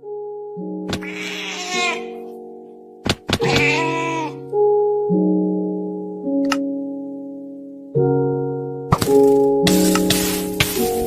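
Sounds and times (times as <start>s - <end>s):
slow keyboard chords: 1.6s - 11.0s.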